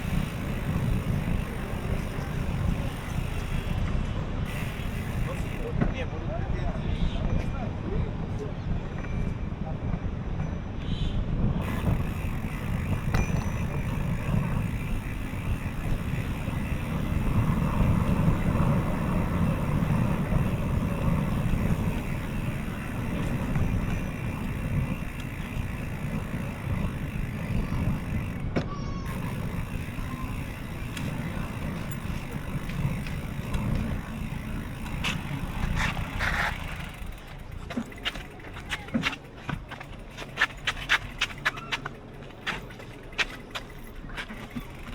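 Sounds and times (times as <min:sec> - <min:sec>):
wind and road noise: 0:00.0 - 0:44.9.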